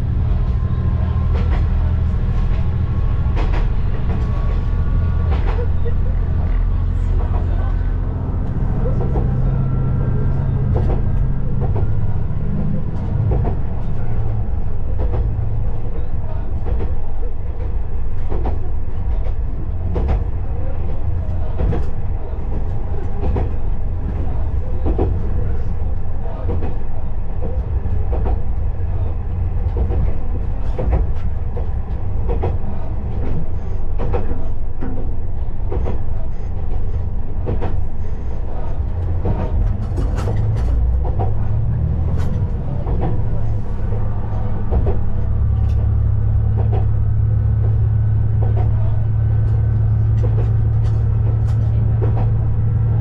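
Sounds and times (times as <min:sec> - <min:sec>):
diesel railcar engine drone: 0:00.0 - 0:53.0.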